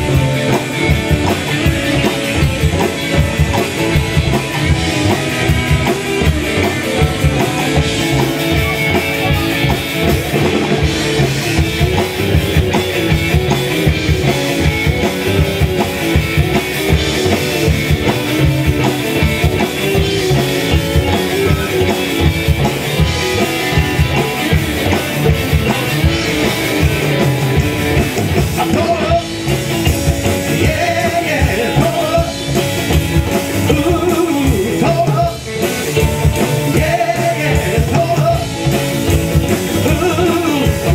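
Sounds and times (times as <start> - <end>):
rockabilly band playing: 0.0 - 40.9.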